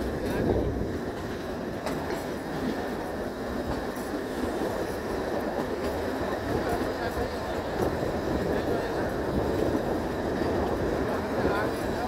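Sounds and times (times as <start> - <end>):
train rumble: 0.0 - 12.0
wheels clicking on rails: 0.0 - 12.0.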